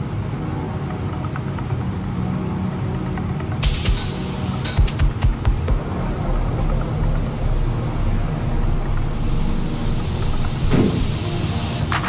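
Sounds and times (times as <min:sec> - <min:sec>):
extractor hood fan running: 0:00.0 - 0:12.0.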